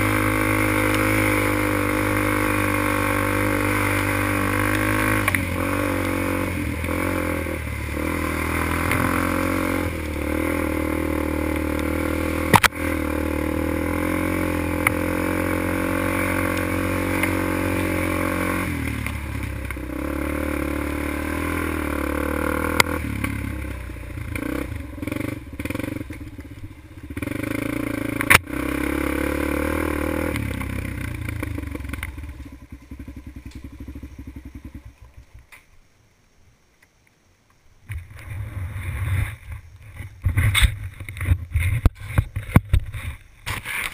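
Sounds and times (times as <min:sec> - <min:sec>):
quad bike engine revving: 0:00.0 - 0:35.2
quad bike knocking on bumps: 0:00.0 - 0:35.7, 0:39.2 - 0:43.9.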